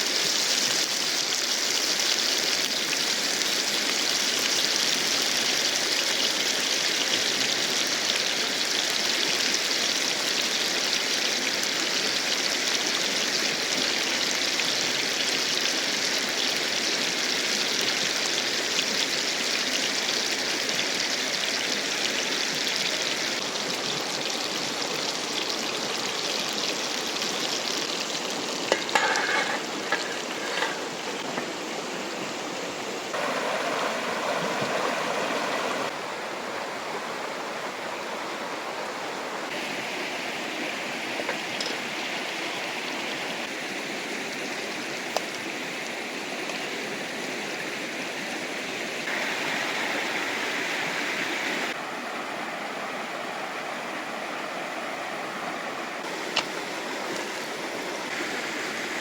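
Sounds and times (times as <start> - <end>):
river water rushing: 0.0 - 46.4, 47.7 - 59.0.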